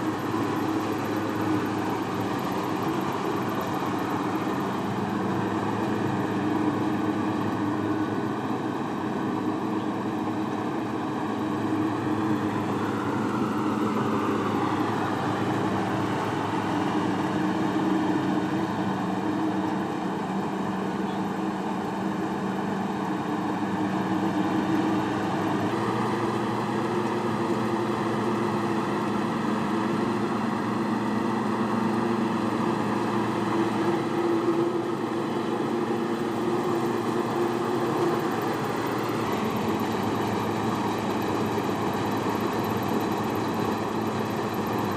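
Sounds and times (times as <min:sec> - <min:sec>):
farm machine engine drone: 0:00.0 - 0:44.9.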